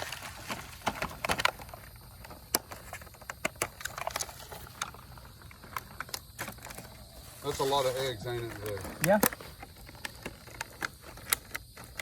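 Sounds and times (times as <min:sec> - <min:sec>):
light clicks of things handled: 0:00.8 - 0:12.0.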